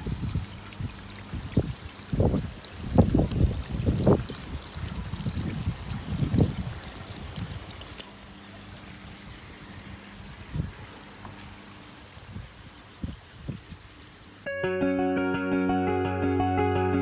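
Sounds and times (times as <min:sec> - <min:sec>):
water trickling and splashing: 0:00.0 - 0:14.5.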